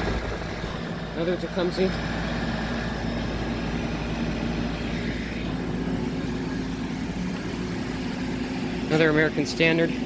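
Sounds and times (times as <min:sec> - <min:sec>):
compressor hum: 0:00.0 - 0:10.0.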